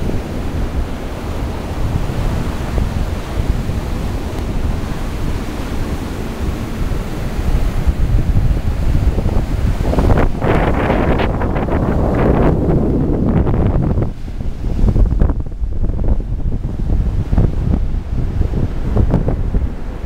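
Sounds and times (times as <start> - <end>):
surf breaking on beach: 0.0 - 20.0
wind on microphone: 0.0 - 20.0.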